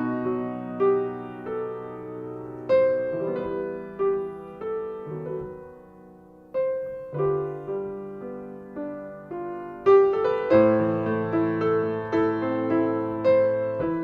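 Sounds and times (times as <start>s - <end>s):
solo piano playing slowly: 0.0s - 14.0s.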